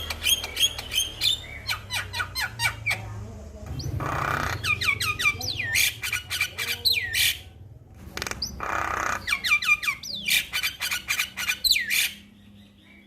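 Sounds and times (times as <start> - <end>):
myna whistled calls and chirps: 0.0 - 3.1, 3.7 - 7.5, 8.4 - 13.0.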